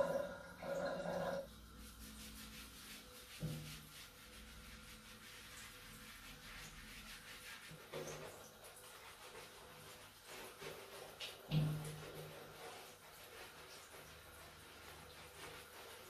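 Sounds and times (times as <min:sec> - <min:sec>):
hand rubbing wet fur: 0:00.1 - 0:16.0.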